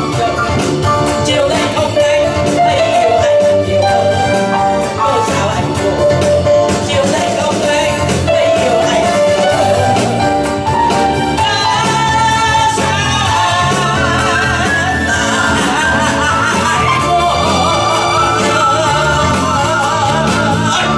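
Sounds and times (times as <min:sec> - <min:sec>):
woman singing into a microphone: 0:00.0 - 0:06.2, 0:06.8 - 0:09.9, 0:11.4 - 0:20.9
instrumental accompaniment: 0:00.0 - 0:20.9.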